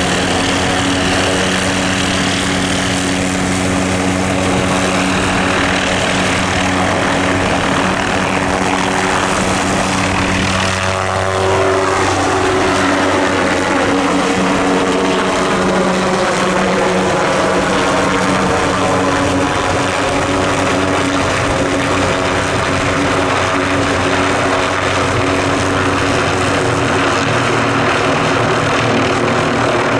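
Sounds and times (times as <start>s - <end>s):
helicopter engine and rotors: 0.0s - 29.9s.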